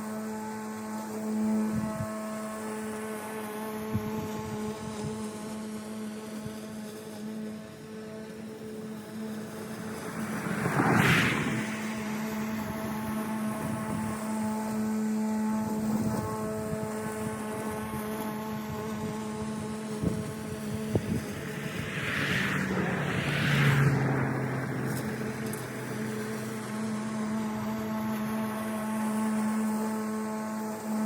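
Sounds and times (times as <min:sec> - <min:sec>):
lawn mower running: 0:02.6 - 0:31.0.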